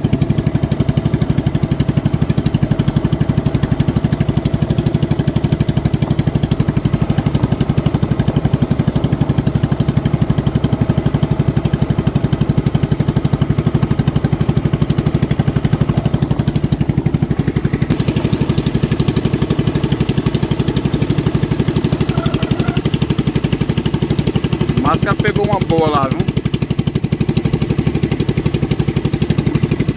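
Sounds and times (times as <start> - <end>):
boat engine running: 0.0 - 29.9.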